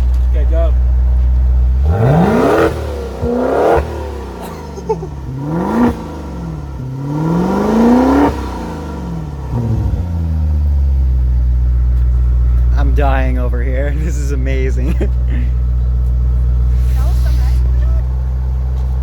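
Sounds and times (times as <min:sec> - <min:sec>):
car engine revving and idling: 0:00.0 - 0:19.0.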